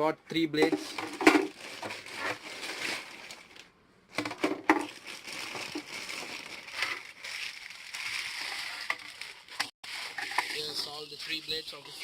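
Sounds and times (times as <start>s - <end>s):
packaging crinkling and rustling: 0.7s - 11.4s.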